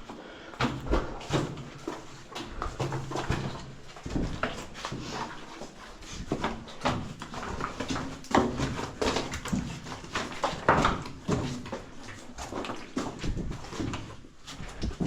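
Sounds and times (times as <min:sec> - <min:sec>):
footsteps on loose rock: 0:00.6 - 0:15.0.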